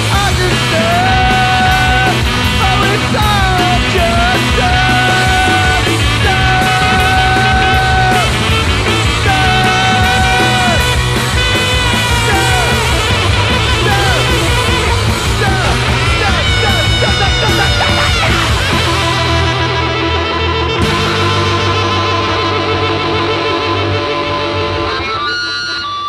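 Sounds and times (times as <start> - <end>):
rock band playing: 0.0 - 26.0
long high sliding notes: 4.4 - 25.8.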